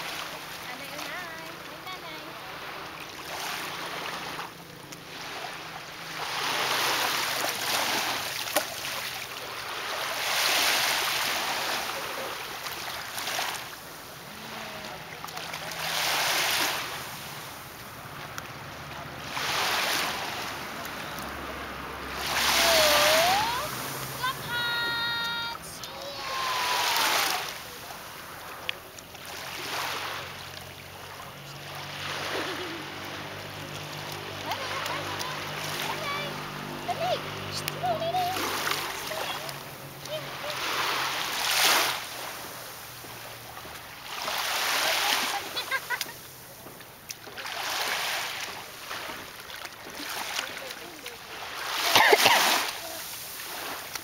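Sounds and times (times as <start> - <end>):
seawater washing and splashing: 0.0 - 54.0.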